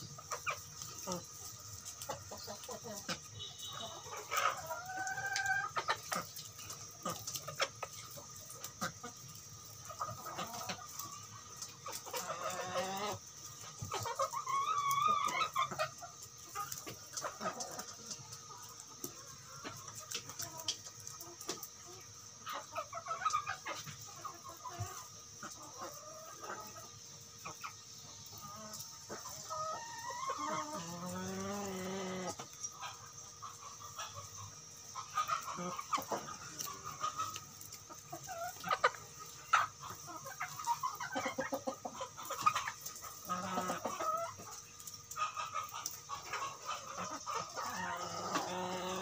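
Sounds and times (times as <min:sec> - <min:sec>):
chickens clucking: 0:00.0 - 0:49.0
steady high hiss: 0:00.0 - 0:49.0
wavering chicken calls: 0:00.0 - 0:49.0.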